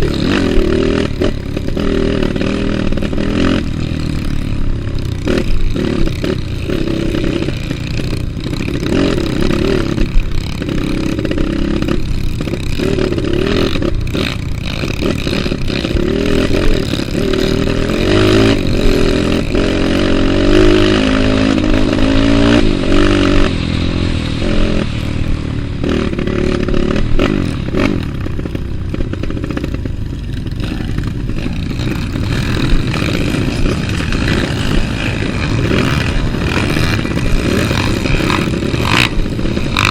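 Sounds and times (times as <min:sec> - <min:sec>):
motorcycle engine revving: 0:00.0 - 0:39.9
motorcycle rattling: 0:00.0 - 0:39.9.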